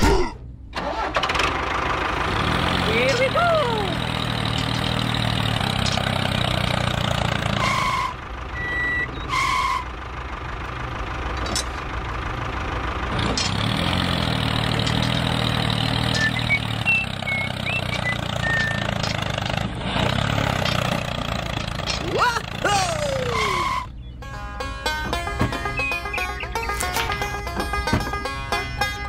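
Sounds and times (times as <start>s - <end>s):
tractor engine running: 0.4s - 29.0s.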